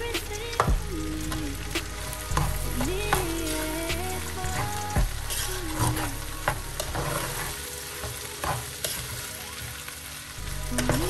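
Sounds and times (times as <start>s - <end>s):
rice sizzling: 0.0s - 11.0s.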